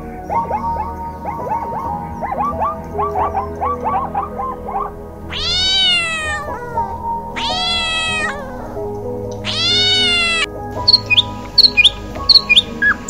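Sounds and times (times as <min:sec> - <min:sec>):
background music: 0:00.0 - 0:13.0
animal calling: 0:02.2 - 0:13.0.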